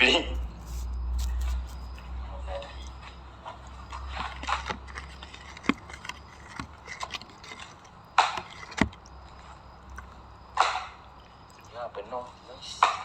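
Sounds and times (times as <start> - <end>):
snack packages clicking and knocking: 0.3 - 2.2, 2.8 - 11.7.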